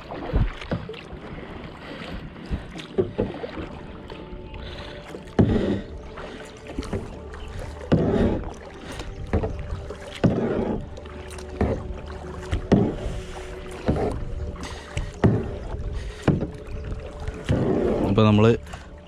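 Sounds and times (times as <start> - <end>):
paddle splashing in water: 0.0 - 19.0
water dripping: 1.8 - 19.0.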